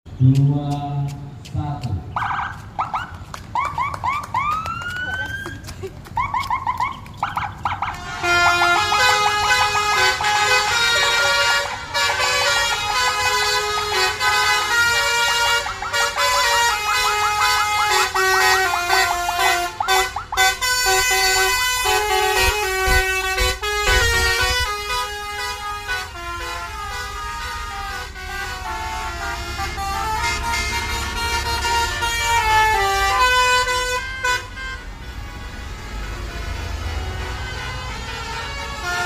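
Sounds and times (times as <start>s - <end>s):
multi-tone bus air horns: 7.3s - 39.0s.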